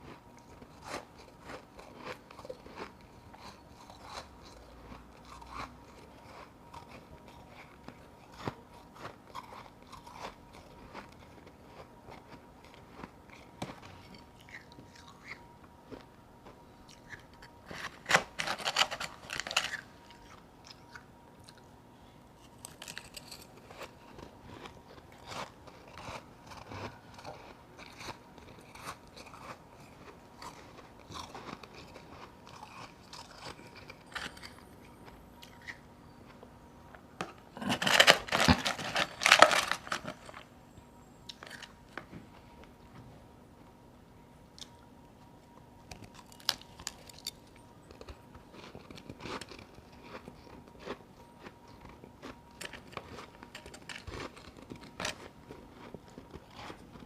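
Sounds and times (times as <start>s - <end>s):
chewing crunchy ice: 0.0s - 21.8s, 22.4s - 40.6s, 41.2s - 42.0s, 45.8s - 57.0s.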